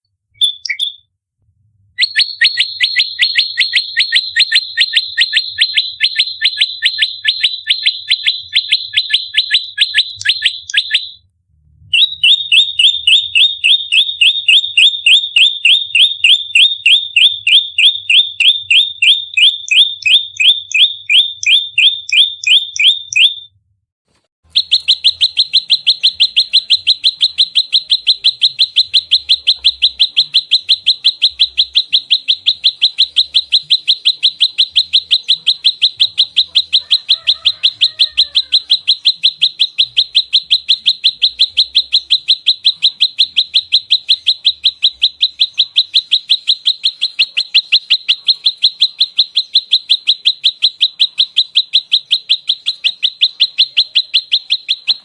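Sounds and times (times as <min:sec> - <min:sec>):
small bird rapid high chirps: 0:00.3 - 0:01.1, 0:02.0 - 0:11.2, 0:11.9 - 0:23.5, 0:24.5 - 0:55.0.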